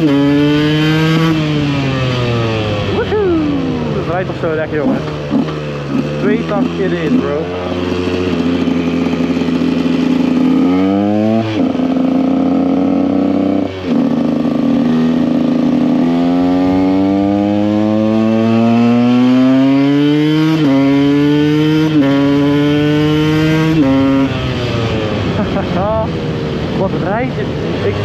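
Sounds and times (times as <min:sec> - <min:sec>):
two-stroke engine accelerating: 0:00.0 - 0:28.0.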